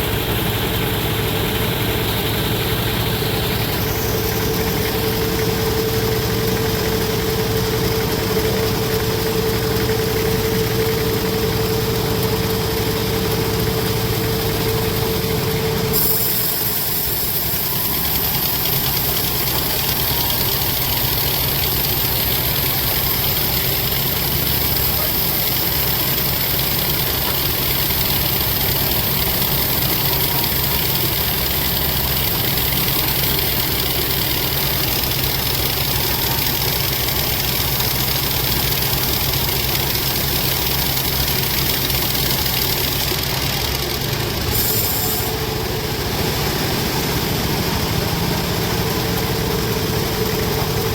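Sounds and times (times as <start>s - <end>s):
sawmill machinery hum: 0.0s - 50.9s
steady machine whine: 0.0s - 50.9s.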